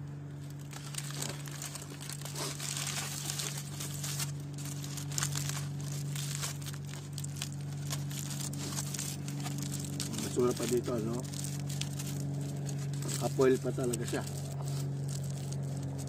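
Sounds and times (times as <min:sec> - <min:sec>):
steady low hum: 0:00.0 - 0:16.0
foil wrapper crinkling: 0:00.1 - 0:16.0.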